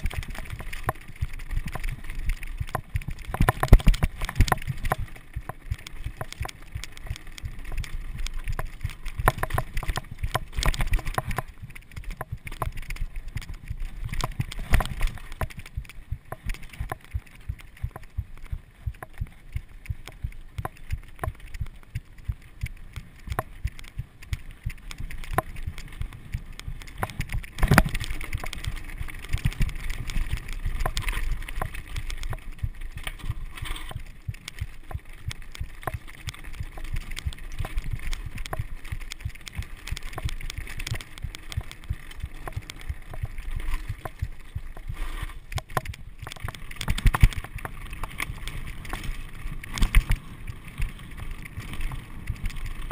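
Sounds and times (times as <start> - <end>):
bike rattling and knocking: 0.0 - 52.9
bike tyres rumbling on gravel: 0.0 - 52.9.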